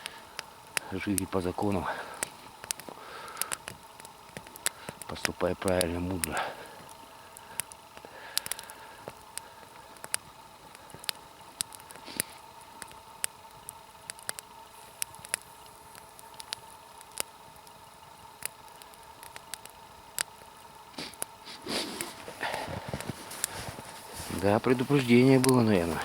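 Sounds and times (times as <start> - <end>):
campfire crackling: 0.0 - 26.0
faint steady tone: 0.0 - 26.0.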